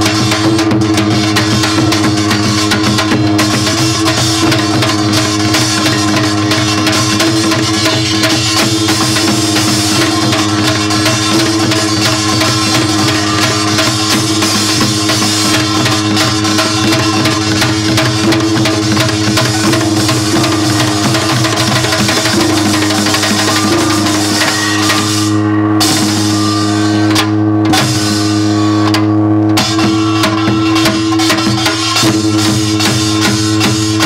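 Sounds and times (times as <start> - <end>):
fast percussion ensemble: 0.0 - 34.0
ringing gong tone: 0.0 - 34.0.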